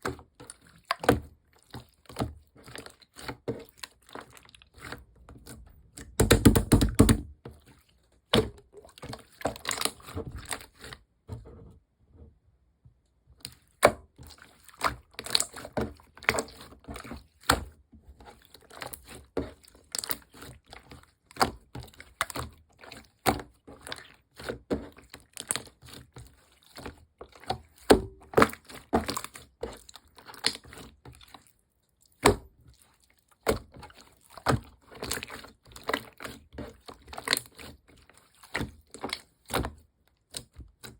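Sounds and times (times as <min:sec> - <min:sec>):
hands squishing slime: 0:00.0 - 0:11.1, 0:13.4 - 0:40.9.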